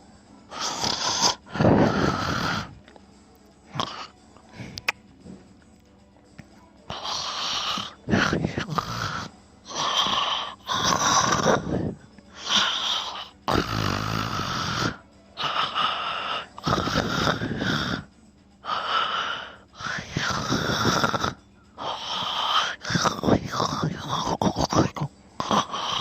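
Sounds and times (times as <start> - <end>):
person's wheezy sleep breathing: 0.5 - 2.8, 3.7 - 4.9, 6.9 - 26.0.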